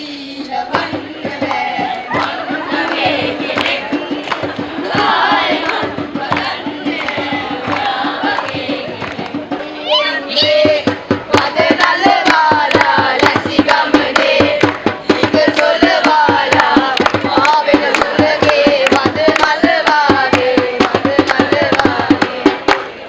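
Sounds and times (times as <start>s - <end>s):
group of voices singing: 0.0s - 23.0s
fast steady drum beat: 0.4s - 23.0s.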